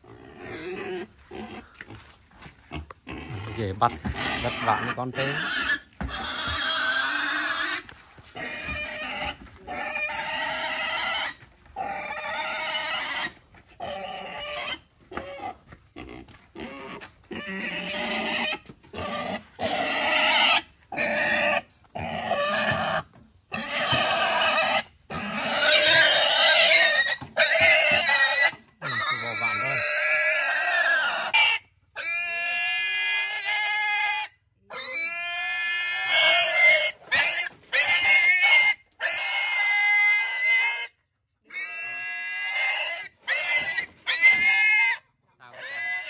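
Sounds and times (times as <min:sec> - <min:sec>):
wild boar squealing: 0:00.0 - 0:02.0, 0:02.7 - 0:46.0.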